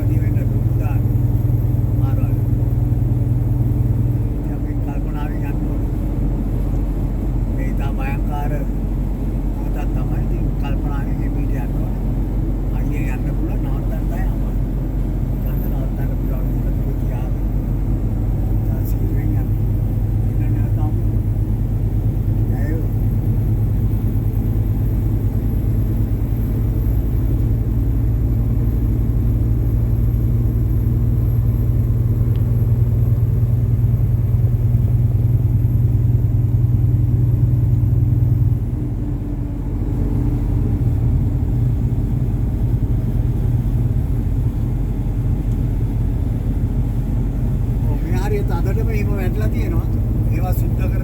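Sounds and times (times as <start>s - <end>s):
diesel engine drone: 0.0s - 51.0s.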